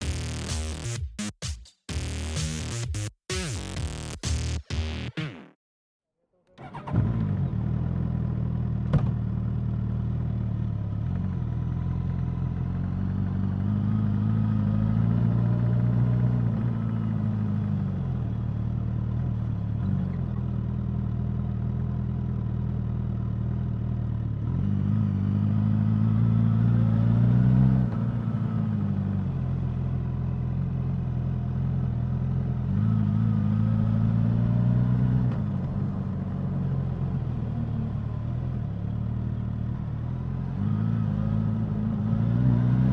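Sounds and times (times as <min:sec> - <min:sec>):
motorcycle engine idling and revving: 0:06.6 - 0:42.9.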